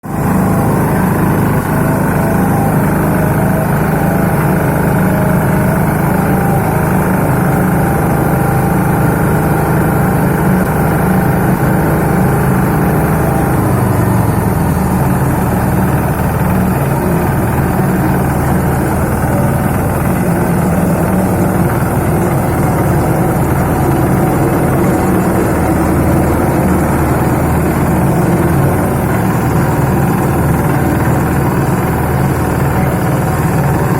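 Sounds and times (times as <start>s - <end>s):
road roller engine running: 0.0s - 33.9s.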